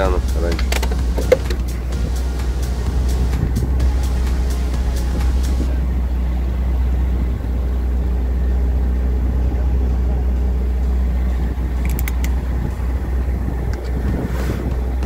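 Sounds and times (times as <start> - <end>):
motorboat engine droning: 0.0 - 15.0
wind buffeting microphone: 0.0 - 15.0.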